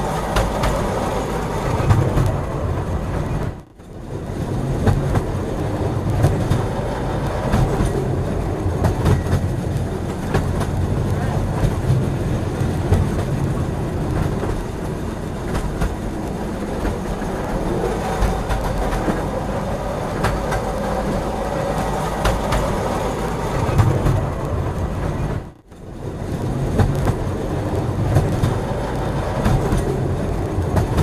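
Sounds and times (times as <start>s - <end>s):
train rumbling on rails: 0.0s - 31.0s
wheels clicking over rail joints: 0.0s - 31.0s.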